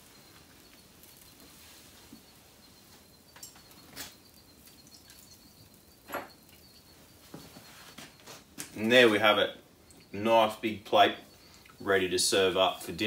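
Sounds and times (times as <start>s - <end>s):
high-pitched pulsing chirp: 0.0s - 13.0s.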